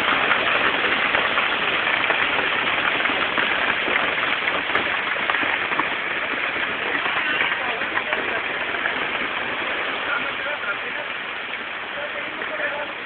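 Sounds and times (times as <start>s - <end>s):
heavy rain pouring: 0.0s - 13.0s
raindrops ticking on surfaces: 0.0s - 13.0s.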